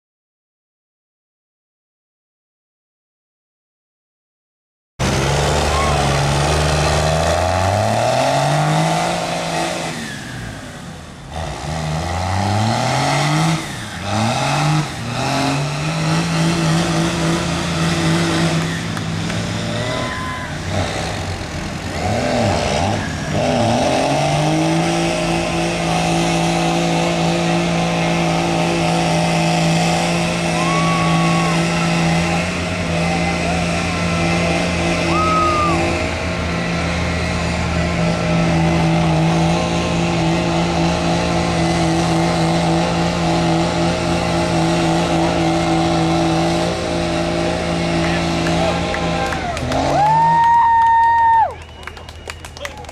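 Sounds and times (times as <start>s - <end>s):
diesel truck engine revving: 5.0s - 52.9s.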